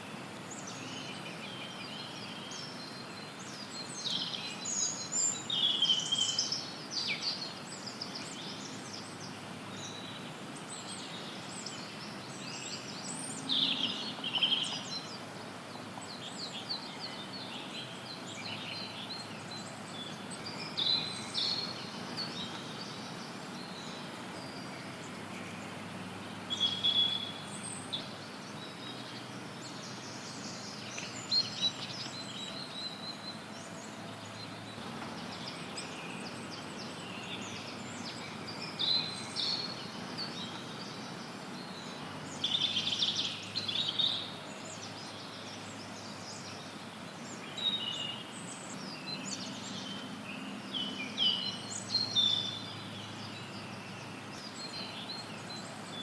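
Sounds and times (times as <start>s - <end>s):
songbirds chirping: 0.0s - 56.0s
white noise hiss: 0.0s - 56.0s.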